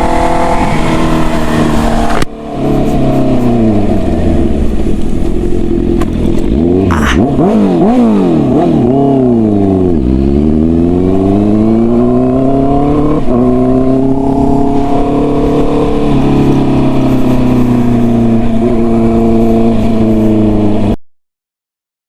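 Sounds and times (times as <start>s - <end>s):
motorcycle accelerating and shifting: 0.0s - 21.0s.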